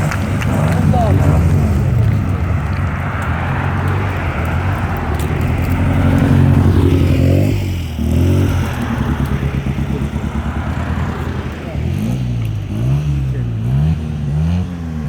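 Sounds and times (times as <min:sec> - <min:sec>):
race car engines driving past: 0:00.0 - 0:15.0.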